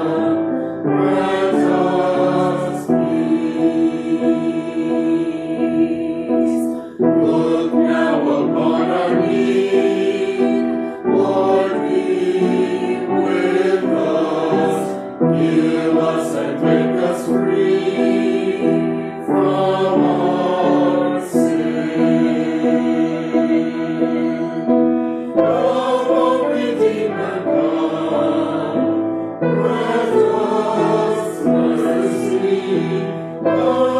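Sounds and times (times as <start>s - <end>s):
church choir singing: 0.0s - 33.9s.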